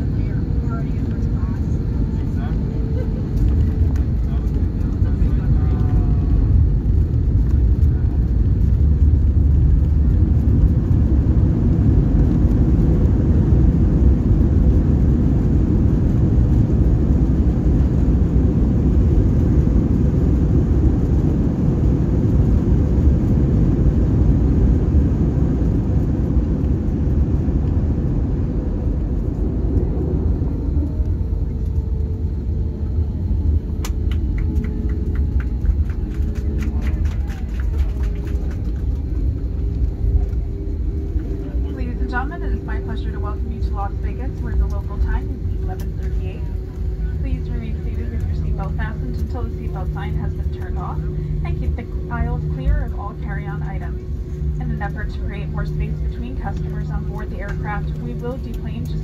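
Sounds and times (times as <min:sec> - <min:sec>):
airliner engines rumbling: 0:00.0 - 0:59.0.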